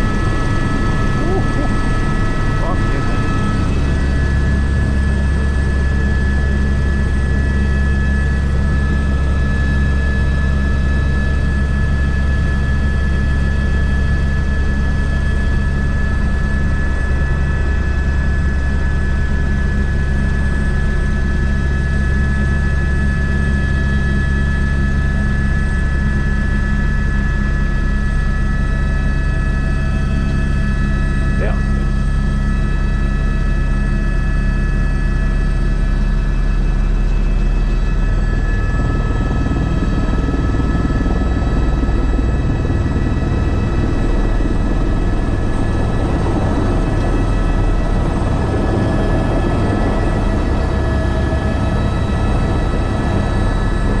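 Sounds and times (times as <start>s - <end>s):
helicopter rotor drone: 0.0s - 54.0s
turbine whine: 0.0s - 54.0s.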